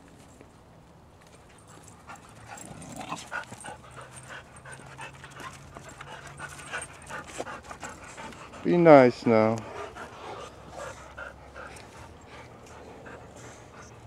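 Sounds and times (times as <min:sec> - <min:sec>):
dogs panting: 0:01.3 - 0:14.0.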